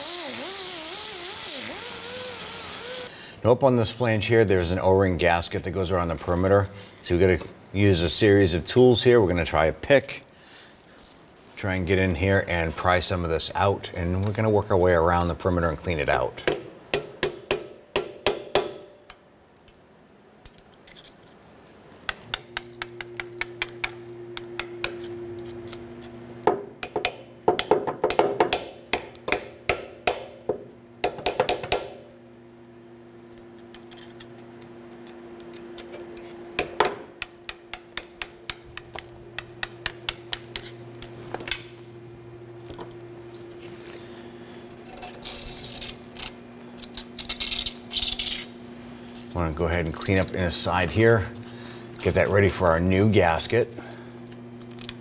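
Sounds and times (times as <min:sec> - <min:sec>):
steady low hum: 0:01.2 - 0:55.0.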